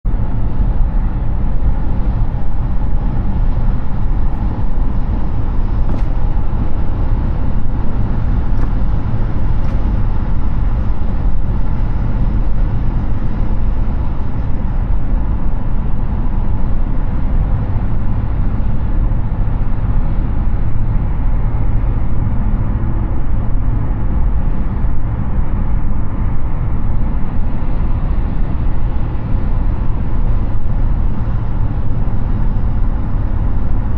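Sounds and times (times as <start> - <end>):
car tyre and wind noise: 0.0 - 33.9.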